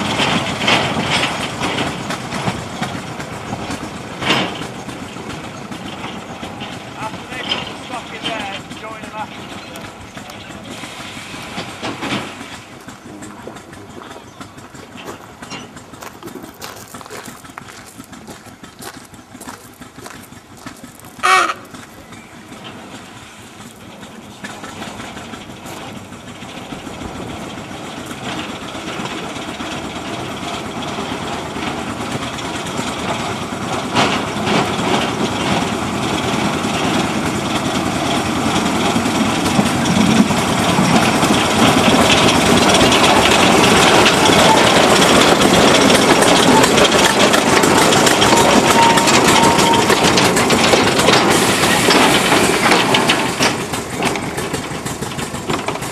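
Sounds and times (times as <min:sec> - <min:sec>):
locomotive engine running: 0:00.0 - 0:55.9.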